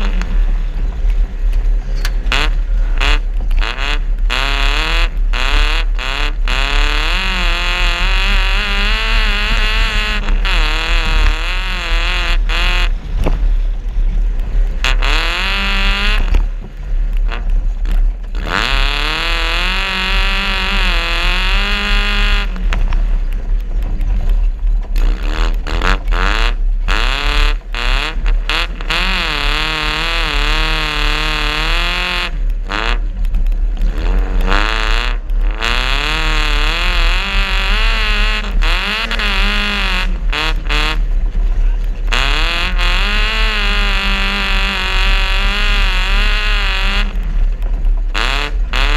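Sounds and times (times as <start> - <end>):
car engine revving hard: 0.0 - 0.7, 2.3 - 13.2, 14.7 - 16.6, 17.2 - 23.0, 25.0 - 48.9.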